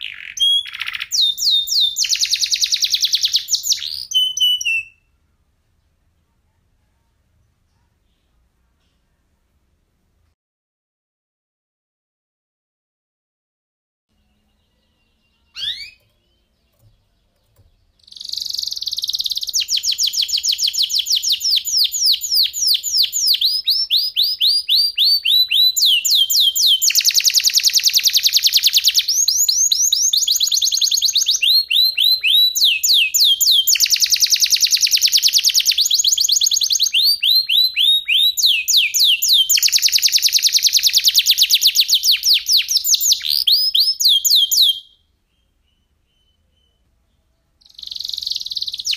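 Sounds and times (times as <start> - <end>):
canary singing trills: 0.0 - 5.2, 14.1 - 48.9.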